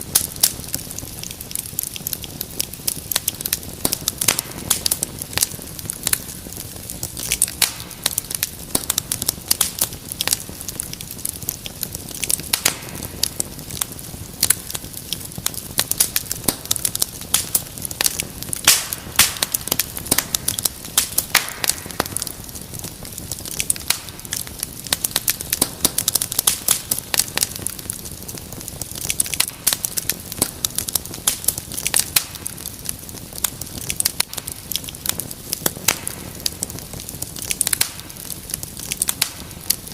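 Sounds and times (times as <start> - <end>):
wood fire crackling: 0.0 - 39.9
sharp pops and snaps: 0.1 - 39.9.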